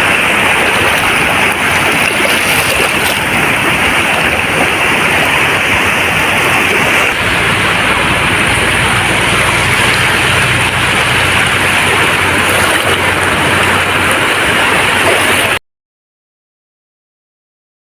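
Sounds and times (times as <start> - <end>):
sea waves washing on beach: 0.0 - 15.6
low steady hum: 0.1 - 15.5.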